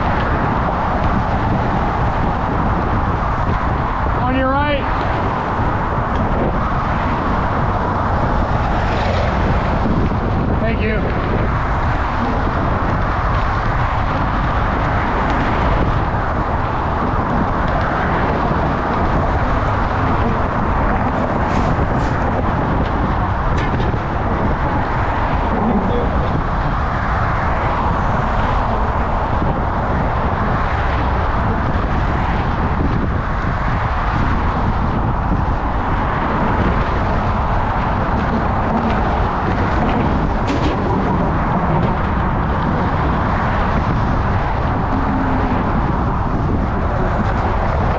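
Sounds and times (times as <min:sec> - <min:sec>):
passing road traffic: 0:00.0 - 0:47.9
wind buffeting microphone: 0:00.0 - 0:47.9.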